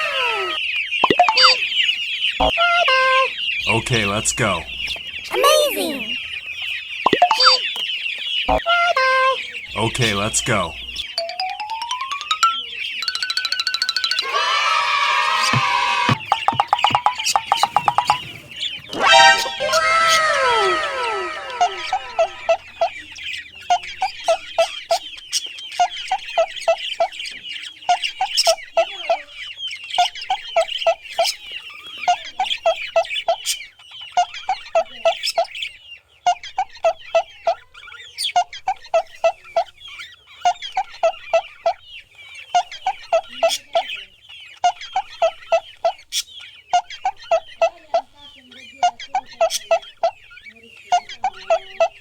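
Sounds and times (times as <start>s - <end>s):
chicken clucking: 0.0s - 11.2s, 14.2s - 52.0s
chicks peeping: 0.0s - 52.0s.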